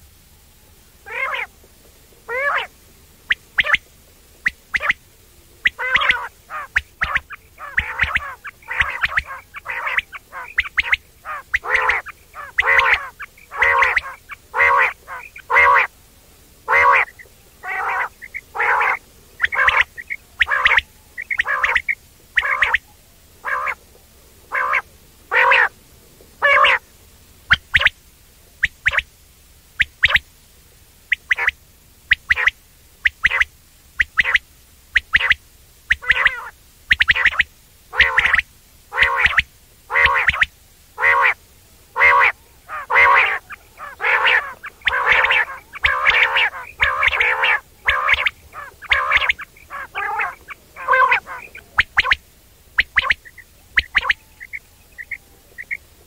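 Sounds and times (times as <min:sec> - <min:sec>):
quail calling: 0:01.0 - 0:16.0, 0:16.6 - 0:25.8, 0:26.4 - 0:26.9, 0:27.5 - 0:28.0, 0:28.6 - 0:29.1, 0:29.8 - 0:30.3, 0:31.1 - 0:56.0.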